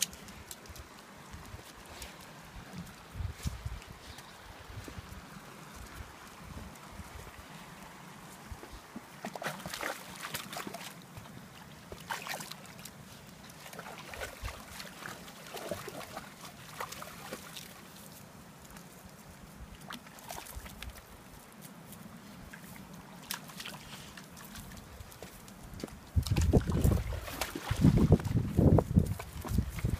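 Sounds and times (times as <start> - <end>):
dogs splashing through water: 0.0 - 21.7, 22.4 - 29.9.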